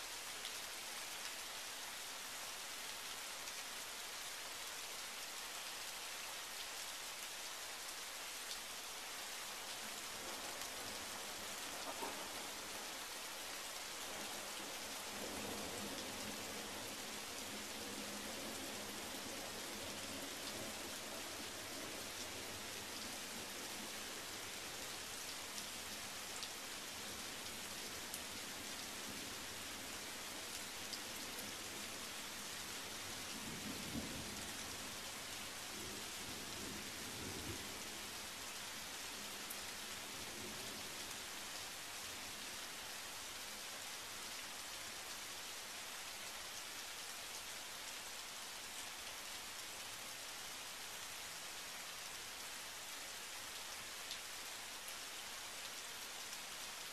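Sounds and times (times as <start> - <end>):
rain falling on pavement: 0.0 - 56.9.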